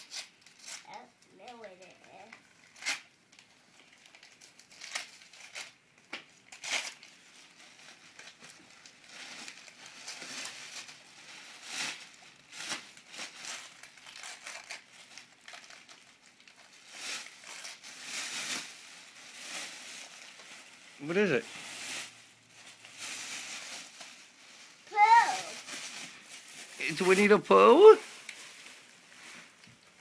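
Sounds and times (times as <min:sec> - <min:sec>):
gift wrap crinkling and tearing: 0:00.0 - 0:30.0.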